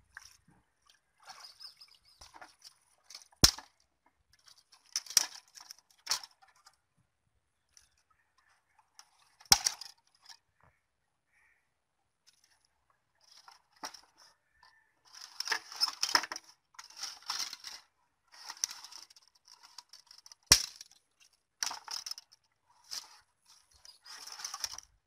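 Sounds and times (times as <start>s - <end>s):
dry twigs rustling and crackling: 0.0s - 6.8s, 7.6s - 10.4s, 12.2s - 25.0s.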